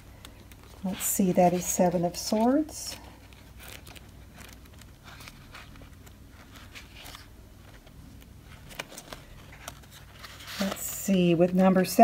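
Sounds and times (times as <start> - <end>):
low room hum: 0.0 - 12.0
paper pages rustling: 0.1 - 12.0.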